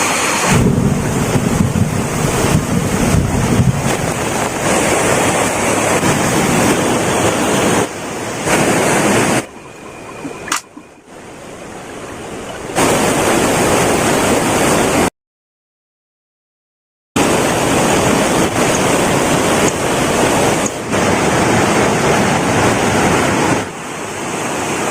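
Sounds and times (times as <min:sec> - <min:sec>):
heavy rain pouring: 0:00.0 - 0:15.1, 0:17.2 - 0:24.9.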